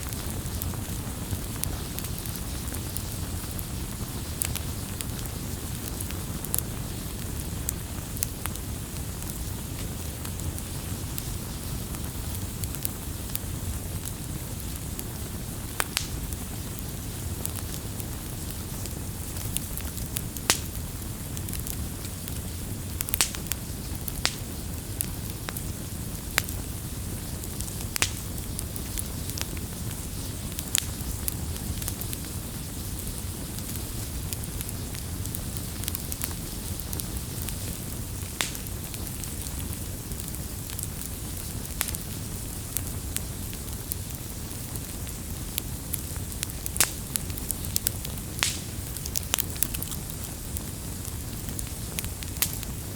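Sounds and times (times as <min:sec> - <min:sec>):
burning wood crackling and popping: 0:00.0 - 0:52.9
campfire low rumble: 0:00.0 - 0:52.9.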